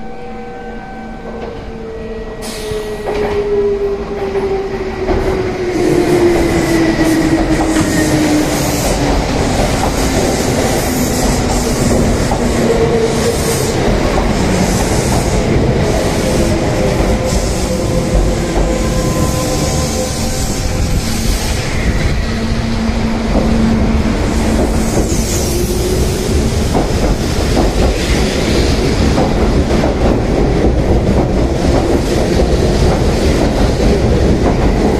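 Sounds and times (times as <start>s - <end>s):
train wheels on rails: 2.4s - 34.9s.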